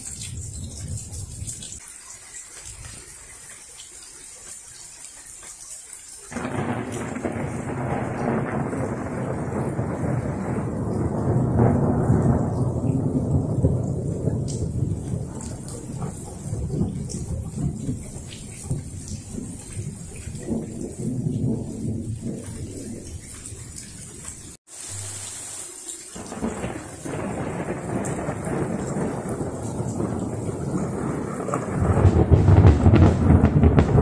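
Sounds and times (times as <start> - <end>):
thunder rumbling: 0.0 - 1.8, 6.3 - 24.6, 26.2 - 34.0
drips: 0.0 - 31.7
rain hiss: 0.0 - 34.0.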